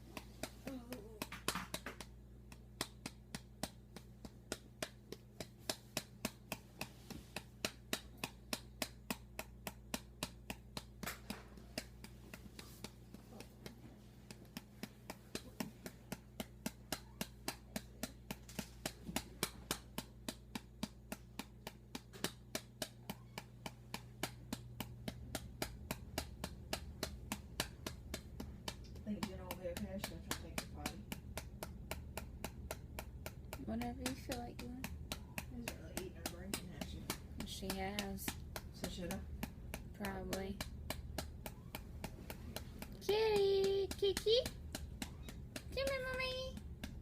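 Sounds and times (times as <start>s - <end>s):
patting on a baby's back: 0.0s - 47.0s.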